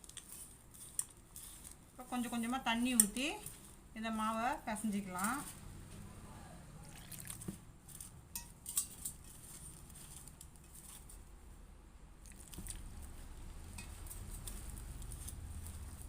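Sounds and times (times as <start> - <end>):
hands kneading wet dough: 0.0 - 5.6, 6.8 - 11.3, 12.2 - 16.0.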